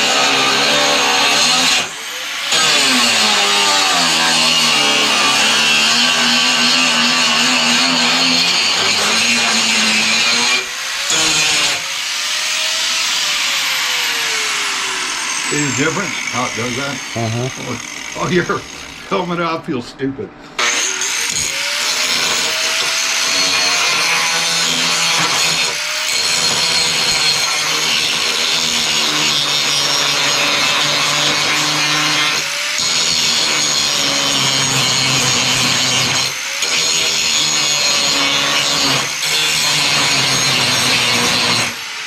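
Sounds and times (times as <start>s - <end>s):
harsh rasping of grinding steel: 0.0s - 19.3s, 20.5s - 41.9s.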